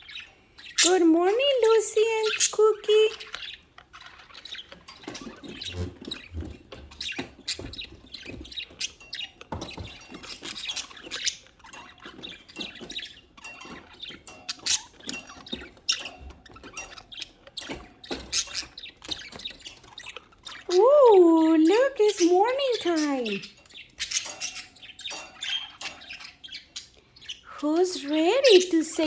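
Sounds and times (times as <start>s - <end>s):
budgerigars chirping: 0.0s - 29.0s.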